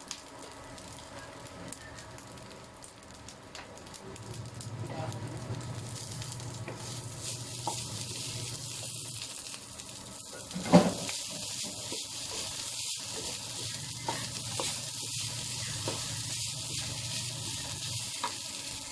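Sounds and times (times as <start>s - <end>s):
rice sizzling in a pan: 0.0s - 18.9s.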